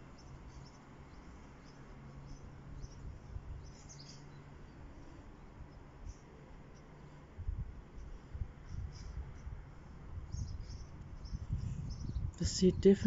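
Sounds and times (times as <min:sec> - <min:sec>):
faint bird chirps: 0:00.0 - 0:07.3, 0:07.9 - 0:09.6, 0:10.3 - 0:13.0
steady low hum: 0:00.0 - 0:13.0.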